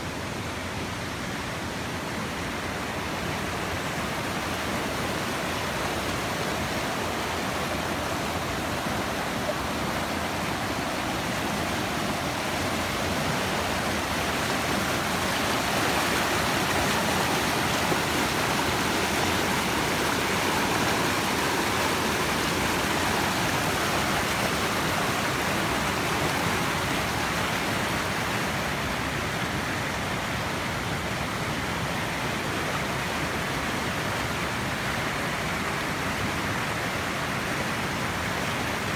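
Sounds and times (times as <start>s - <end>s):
waterfall splashing: 2.6s - 38.9s.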